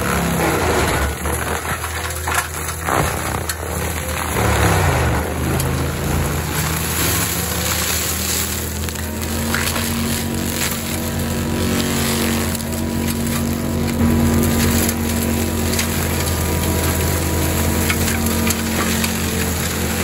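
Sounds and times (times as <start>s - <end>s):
diesel engine running under load: 0.0s - 20.0s
mulcher drum grinding brush: 0.0s - 20.0s
debris ticking: 0.1s - 20.0s.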